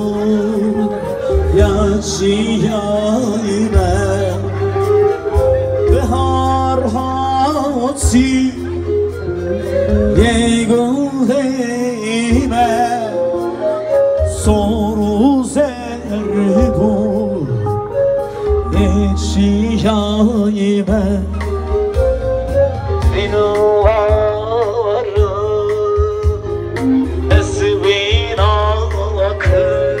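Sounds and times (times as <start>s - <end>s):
heavy bass: 0.0s - 30.0s
keyboard accompaniment: 0.0s - 30.0s
man singing into microphone: 0.0s - 30.0s.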